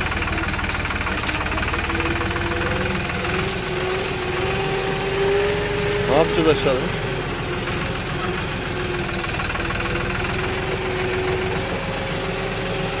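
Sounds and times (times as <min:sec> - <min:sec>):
engine whine: 0:00.0 - 0:13.0
tractor diesel engine chugging: 0:00.0 - 0:13.0.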